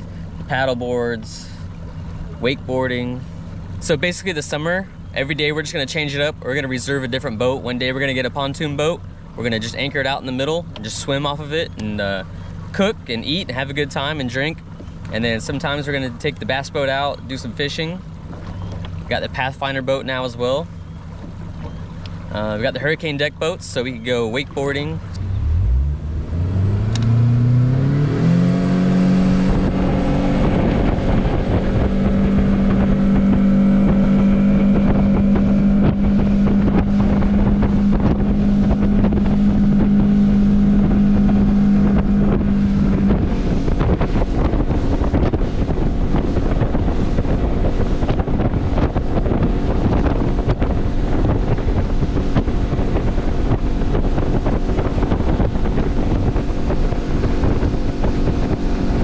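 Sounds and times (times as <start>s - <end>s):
outboard motor running: 0.0s - 59.0s
wind buffeting microphone: 0.0s - 59.0s.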